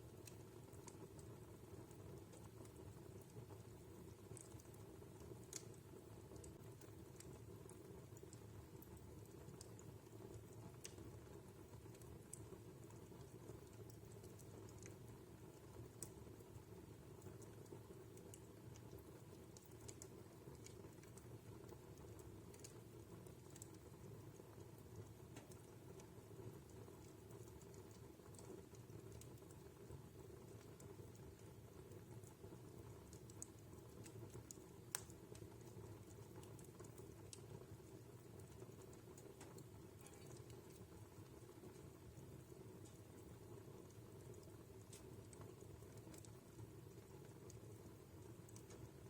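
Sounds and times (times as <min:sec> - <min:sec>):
low hum of flames: 0:00.0 - 0:49.0
wood fire crackling: 0:00.0 - 0:49.0.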